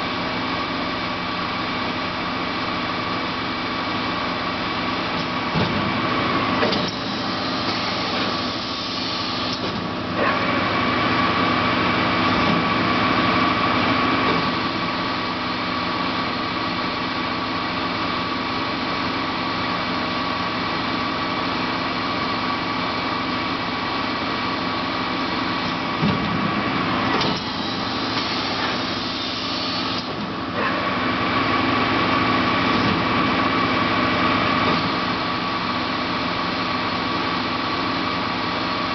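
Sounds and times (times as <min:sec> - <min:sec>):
high machine whine: 0:00.0 - 0:38.9
industrial machine hum: 0:00.0 - 0:38.9.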